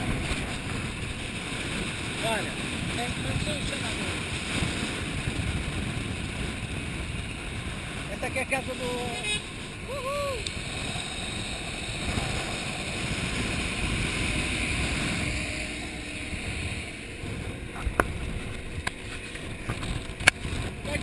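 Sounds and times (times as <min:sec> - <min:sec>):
bus passing: 0:00.0 - 0:21.0
scooter road noise: 0:00.0 - 0:21.0
wind on microphone: 0:00.0 - 0:21.0.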